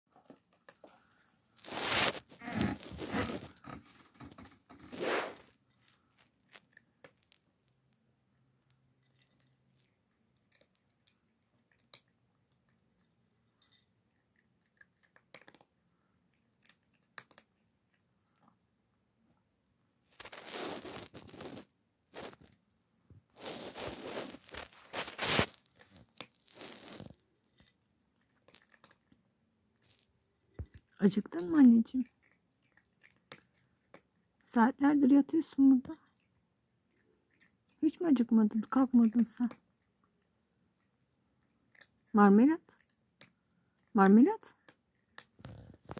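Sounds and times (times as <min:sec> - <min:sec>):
cat crunching dry kibble: 0:00.5 - 0:03.6, 0:04.2 - 0:08.1, 0:08.7 - 0:13.1, 0:14.0 - 0:18.6, 0:20.1 - 0:22.7, 0:23.3 - 0:34.5, 0:36.0 - 0:37.8, 0:38.4 - 0:45.9.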